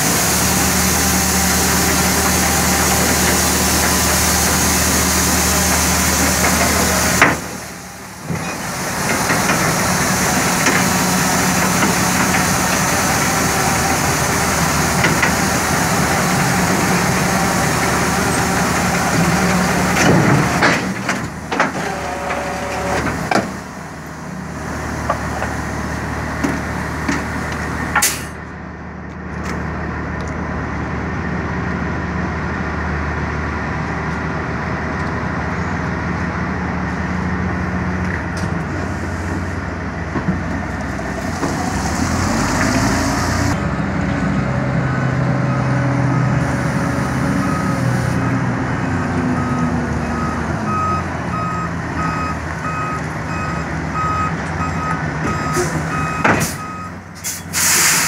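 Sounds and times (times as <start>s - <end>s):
diesel engine idling: 0.0s - 57.2s.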